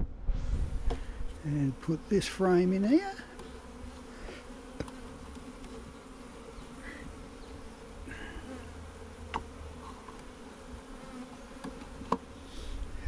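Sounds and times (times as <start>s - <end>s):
bees buzzing: 0.4s - 13.0s.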